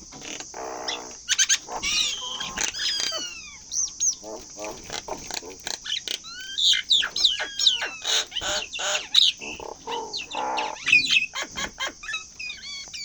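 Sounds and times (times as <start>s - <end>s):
mynas calling: 0.0s - 13.0s.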